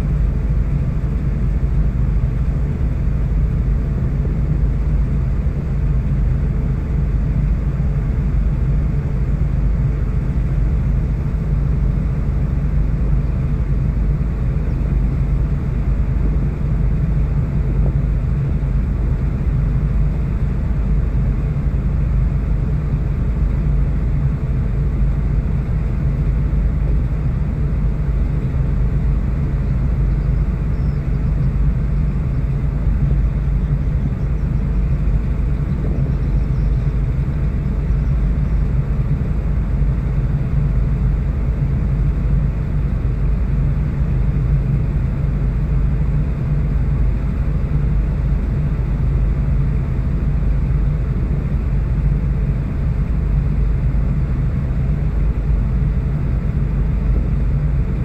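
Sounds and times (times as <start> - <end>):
ship engine rumbling: 0.0 - 58.0.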